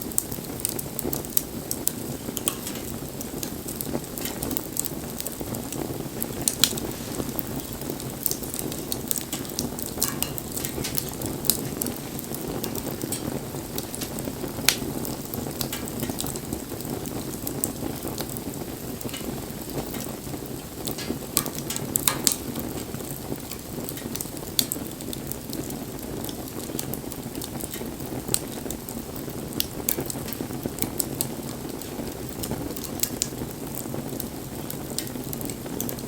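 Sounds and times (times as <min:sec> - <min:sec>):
burning wood crackling and popping: 0:00.0 - 0:36.0
wood fire rumbling: 0:00.0 - 0:36.0.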